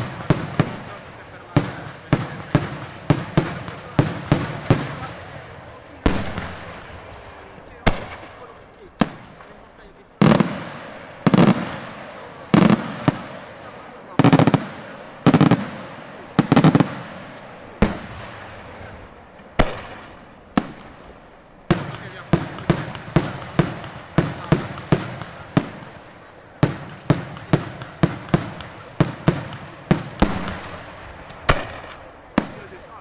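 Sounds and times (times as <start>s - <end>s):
fireworks bangs echoing: 0.0s - 33.0s.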